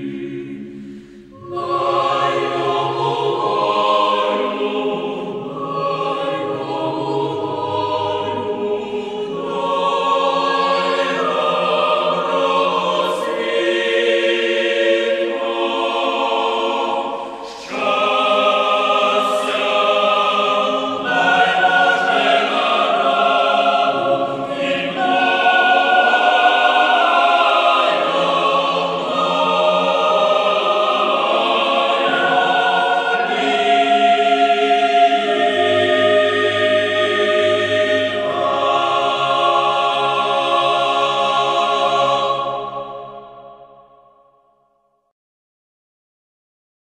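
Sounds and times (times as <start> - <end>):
choir singing held chords: 0.0 - 44.4.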